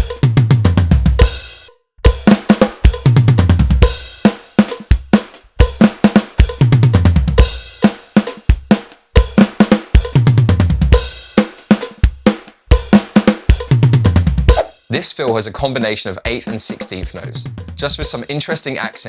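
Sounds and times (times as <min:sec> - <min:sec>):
drum kit fill: 0:00.0 - 0:19.0.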